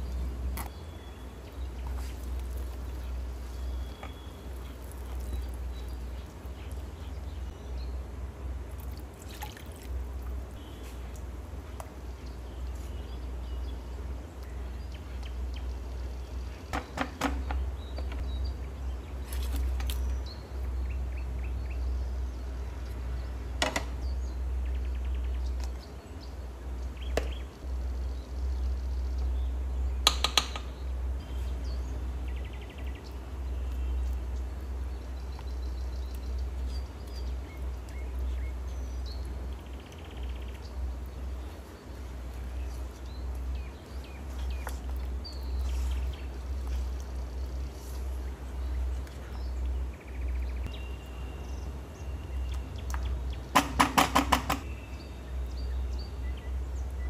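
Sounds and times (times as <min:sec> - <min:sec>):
steady low hum: 0:00.0 - 0:53.6.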